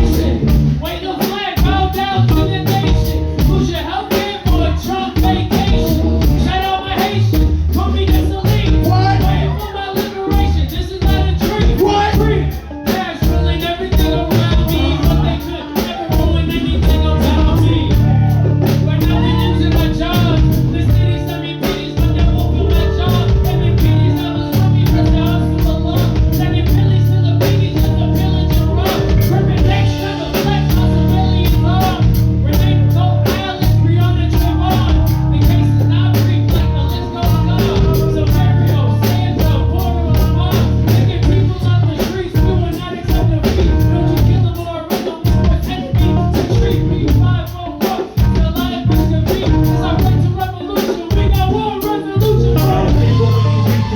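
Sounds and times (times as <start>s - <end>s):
heavy bass: 0.0s - 53.9s
rapping over a beat: 0.0s - 53.9s.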